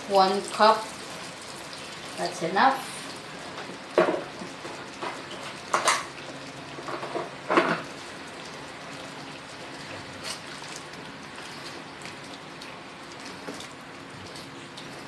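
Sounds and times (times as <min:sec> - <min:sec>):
liquid bubbling in a pot: 0:00.0 - 0:15.0.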